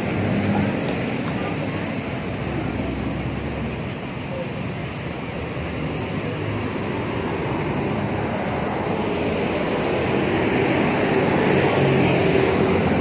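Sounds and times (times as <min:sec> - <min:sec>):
heavy road traffic rumble: 0:00.0 - 0:13.0.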